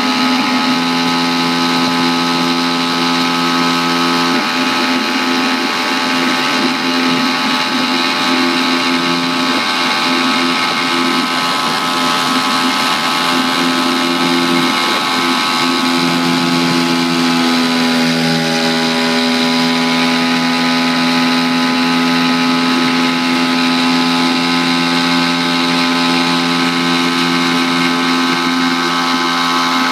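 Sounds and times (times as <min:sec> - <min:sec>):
outboard motor running: 0:00.0 - 0:29.9.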